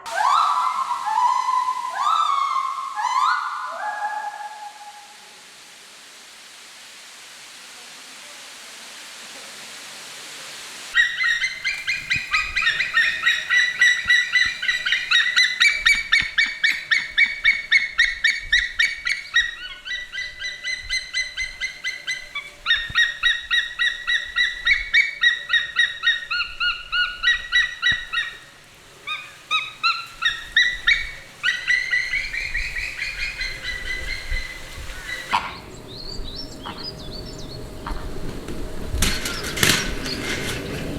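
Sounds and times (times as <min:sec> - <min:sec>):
flamingos honking: 0:00.0 - 0:40.9
rising hiss: 0:00.0 - 0:40.9.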